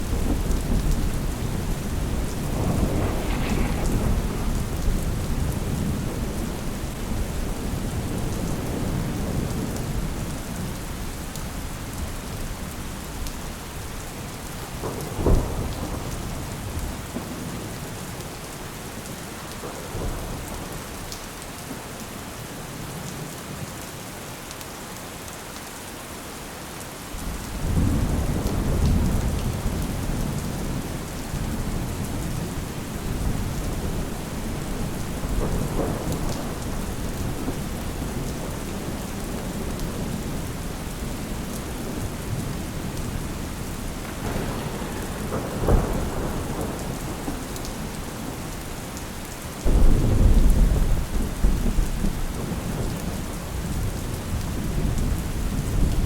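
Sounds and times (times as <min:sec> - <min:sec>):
thunder rumbling and cracking: 0:00.0 - 0:21.2, 0:27.2 - 0:56.0
steady rain: 0:00.0 - 0:56.0.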